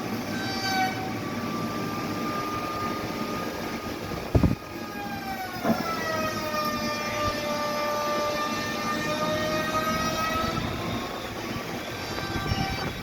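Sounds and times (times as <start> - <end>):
sawmill machinery whining: 0.0 - 13.0.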